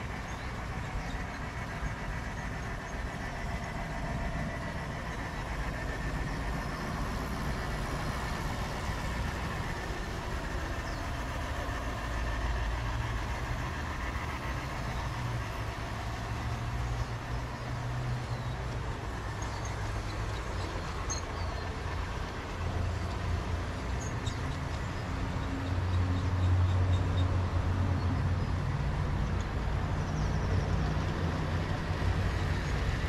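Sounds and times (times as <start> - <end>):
deep steady hum: 0.0 - 33.0
model train rumbling: 0.0 - 33.0.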